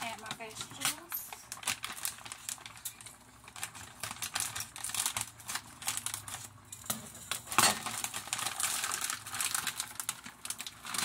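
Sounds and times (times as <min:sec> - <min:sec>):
plastic bag crinkling: 0:00.0 - 0:11.0
scissors snipping plastic bag: 0:00.0 - 0:11.0.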